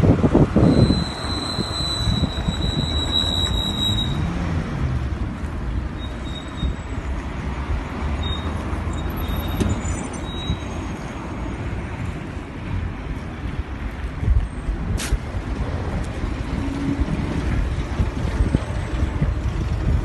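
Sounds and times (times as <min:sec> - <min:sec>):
vehicles driving past: 0:00.0 - 0:20.0.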